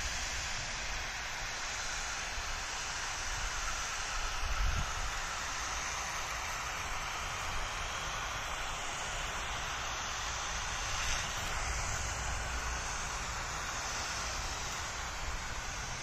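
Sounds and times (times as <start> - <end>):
sprayer hissing: 0.0 - 16.0.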